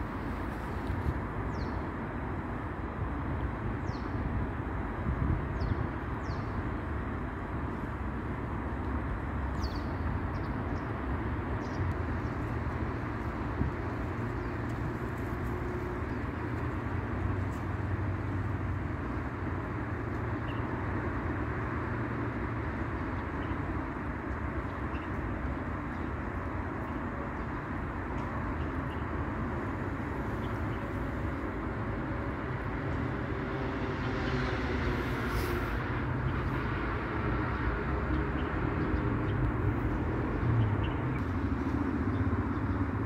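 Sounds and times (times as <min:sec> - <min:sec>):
distant traffic rumble: 0:00.0 - 0:43.0.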